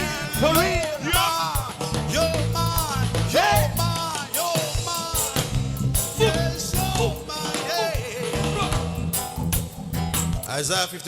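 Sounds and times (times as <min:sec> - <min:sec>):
drums and bass groove: 0:00.0 - 0:10.6.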